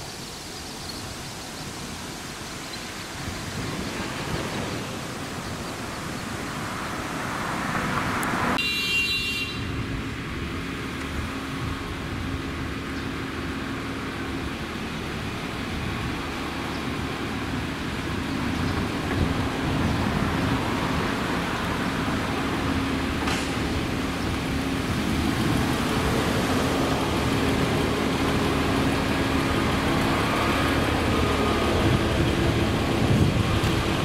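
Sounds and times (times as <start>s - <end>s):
outdoor rumble and hiss: 0.0s - 34.0s.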